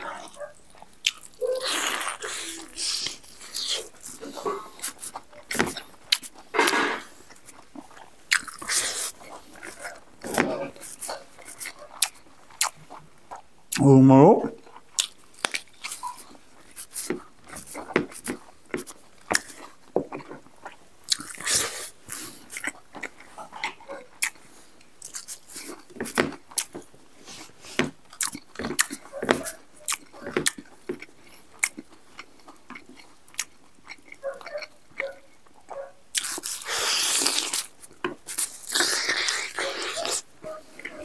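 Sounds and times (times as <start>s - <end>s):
man chewing with mouth smacks: 0.0s - 13.9s, 14.5s - 41.0s.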